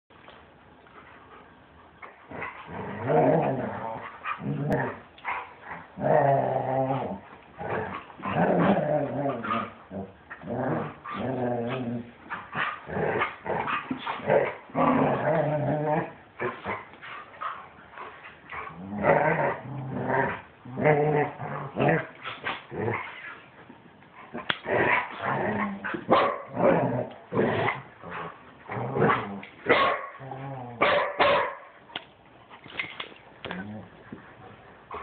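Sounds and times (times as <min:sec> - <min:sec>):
dogs growling in play: 0:00.9 - 0:30.9, 0:33.4 - 0:35.0.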